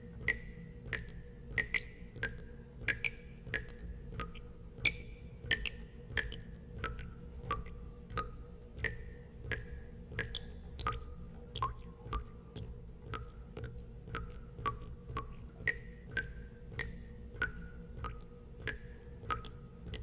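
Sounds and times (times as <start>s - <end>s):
water drops plinking into water: 0.2s - 20.0s.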